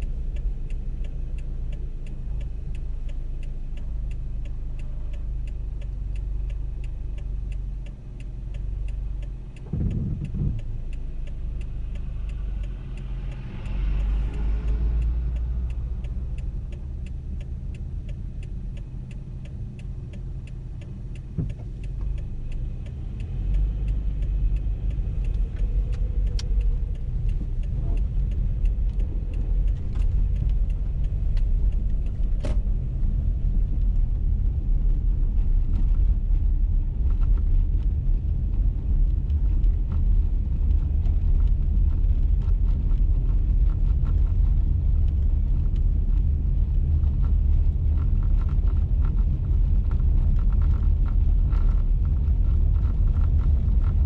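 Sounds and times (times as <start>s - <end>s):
car engine and tyre rumble: 0.0s - 54.0s
faint ticks: 0.0s - 54.0s.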